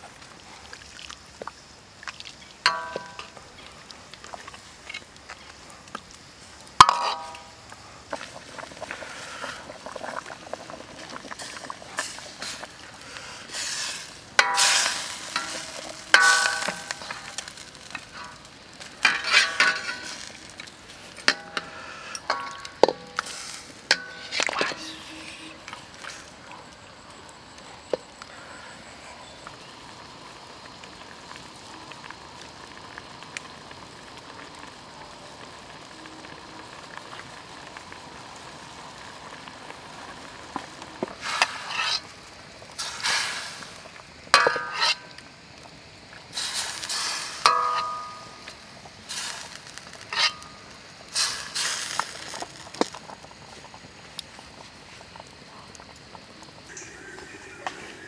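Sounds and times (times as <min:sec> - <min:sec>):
water simmering with bubbling hiss: 0:00.0 - 0:58.0.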